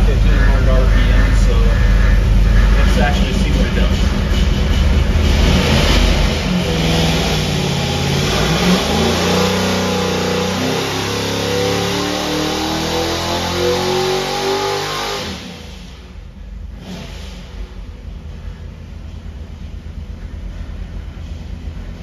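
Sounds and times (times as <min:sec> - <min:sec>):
engine revving at full throttle: 0:00.0 - 0:17.8.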